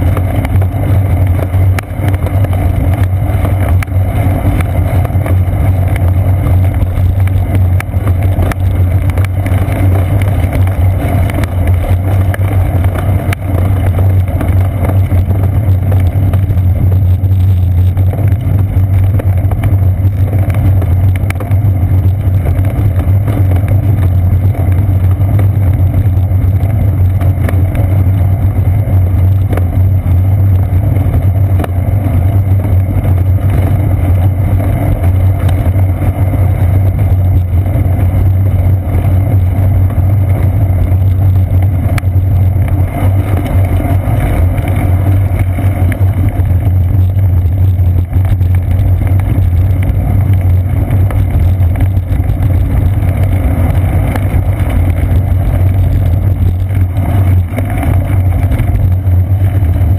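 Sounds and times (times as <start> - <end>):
road vibration rumble: 0.0 - 59.9.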